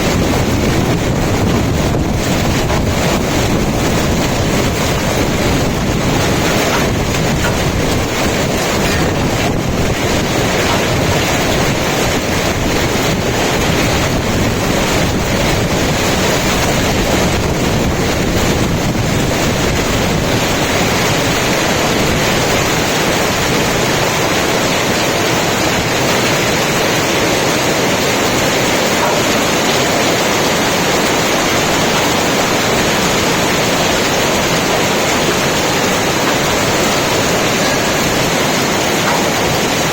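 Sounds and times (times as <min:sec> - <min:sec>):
hailstones pelting down: 0:00.0 - 0:39.9.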